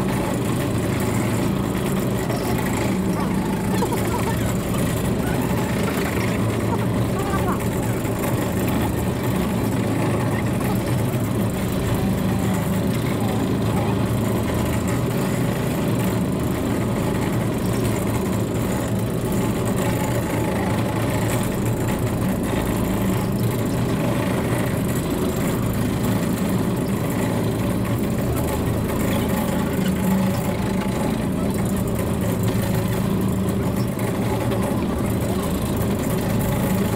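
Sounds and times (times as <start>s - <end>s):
monorail drive unit droning: 0.0s - 36.9s.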